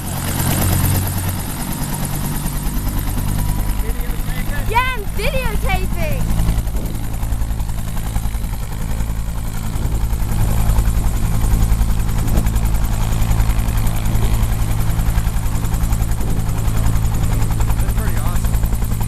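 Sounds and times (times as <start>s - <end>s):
helicopter rotor chop: 0.0s - 19.0s
helicopter turbine whine: 0.0s - 19.0s.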